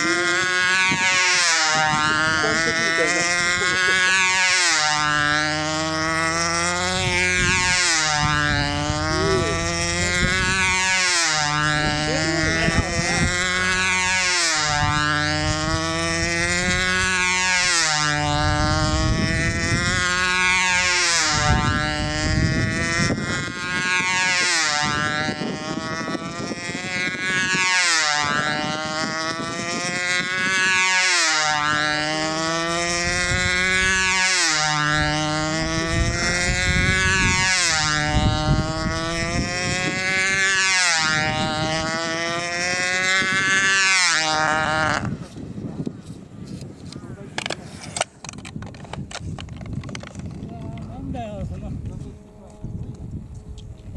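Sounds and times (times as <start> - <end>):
model plane engine whining: 0.0 - 53.9.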